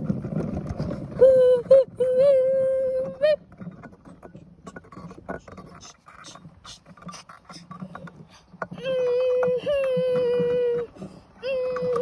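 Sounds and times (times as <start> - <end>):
clicks knocks and scrapes: 0.0 - 1.2, 3.5 - 12.0
plastic toy trailer rattling on grass: 0.0 - 12.0.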